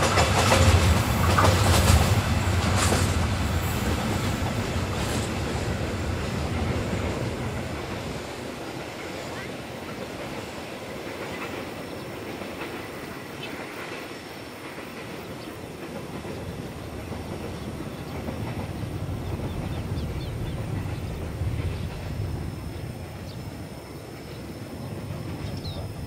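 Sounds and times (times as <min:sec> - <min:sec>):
train wheels clattering over track: 0:00.0 - 0:26.0.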